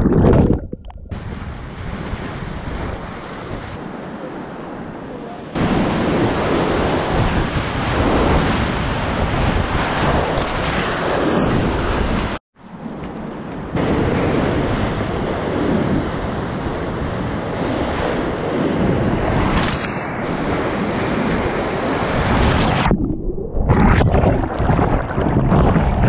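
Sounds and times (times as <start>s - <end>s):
wind buffeting microphone: 0.0s - 4.3s, 5.5s - 26.0s.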